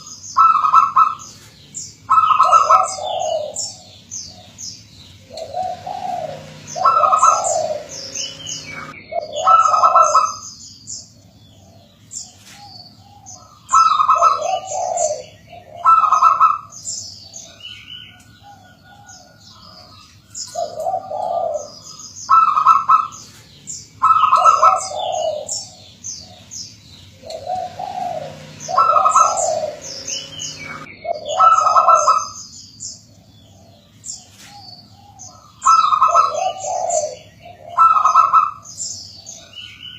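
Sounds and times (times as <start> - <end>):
dove cooing: 0.0 - 1.5, 2.1 - 10.5, 11.2 - 32.4, 33.1 - 39.6
small birds twittering: 0.0 - 39.9.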